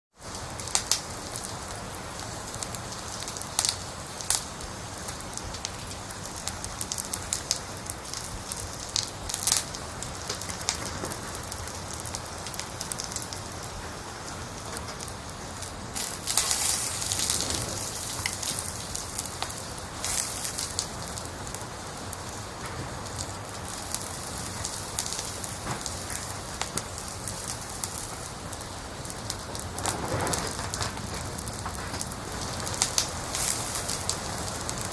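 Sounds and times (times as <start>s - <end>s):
wood fire crackling and popping: 0.2s - 34.9s.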